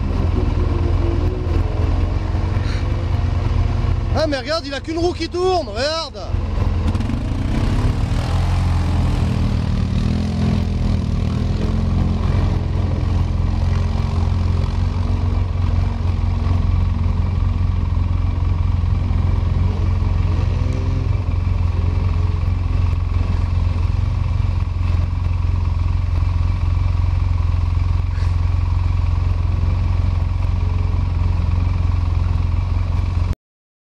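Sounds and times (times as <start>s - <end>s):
quad bike engines revving: 0.0s - 33.3s.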